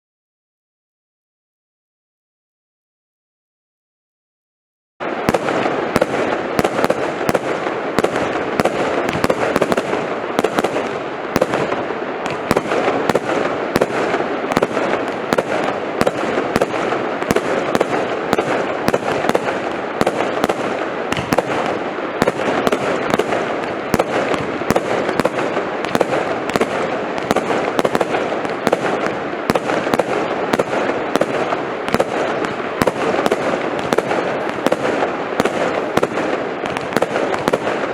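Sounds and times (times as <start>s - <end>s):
firework rapid bangs: 5.0s - 37.9s.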